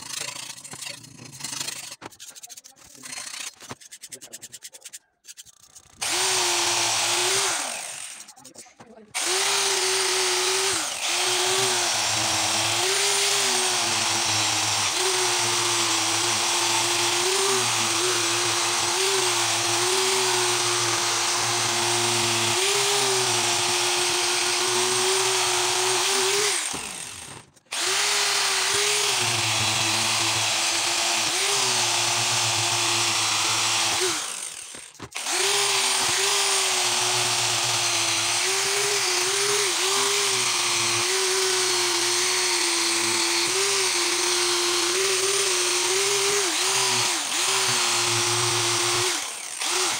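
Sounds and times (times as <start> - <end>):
angle grinder grinding metal: 0.0 - 49.9.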